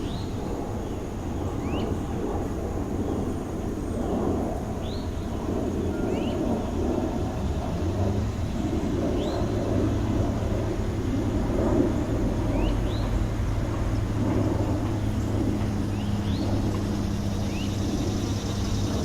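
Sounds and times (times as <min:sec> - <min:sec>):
city traffic rumble: 0:00.0 - 0:19.0.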